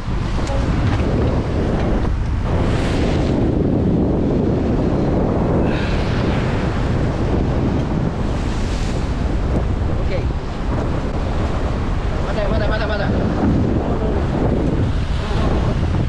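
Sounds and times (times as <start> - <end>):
surf washing against rocks: 0.0 - 16.0
wind buffeting microphone: 0.0 - 16.0.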